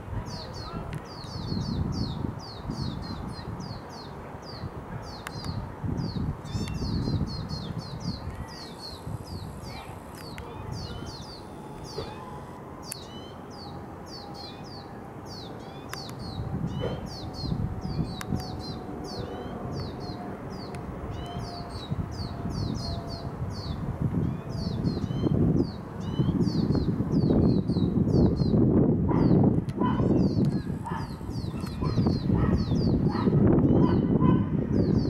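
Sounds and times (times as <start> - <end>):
fledglings begging calls: 0.3 - 28.5, 29.1 - 34.1.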